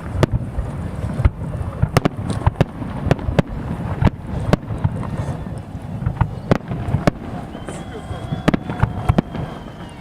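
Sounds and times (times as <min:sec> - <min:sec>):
continuous low rumble: 0:00.0 - 0:10.0
firework bangs: 0:00.0 - 0:10.0.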